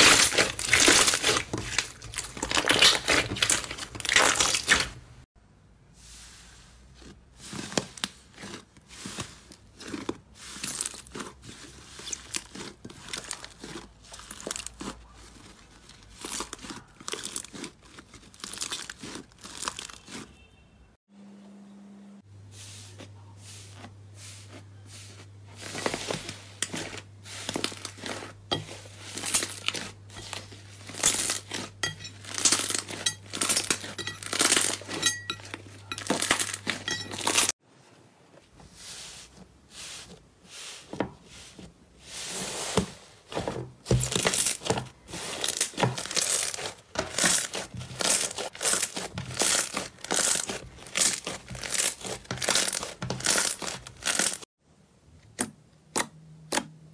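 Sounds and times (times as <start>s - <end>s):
slime crackling and squishing: 0.0s - 5.2s, 6.6s - 20.6s, 23.0s - 37.6s, 38.6s - 54.5s.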